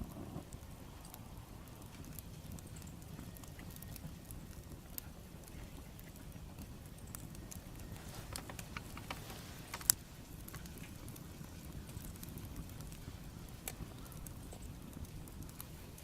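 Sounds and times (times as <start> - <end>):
bonfire ticks and snaps: 0.0 - 16.0
low fire rumble: 0.0 - 16.0.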